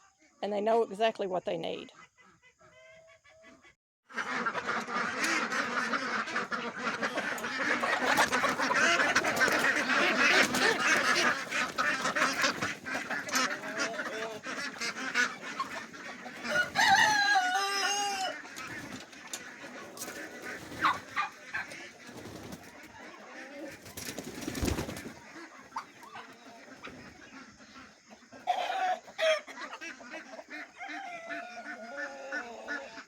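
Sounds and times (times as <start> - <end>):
poultry clucking and squawking: 0.0 - 33.0.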